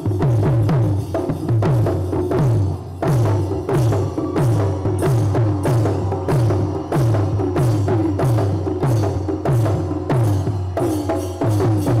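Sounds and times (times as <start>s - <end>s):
percussion background music: 0.0s - 12.0s.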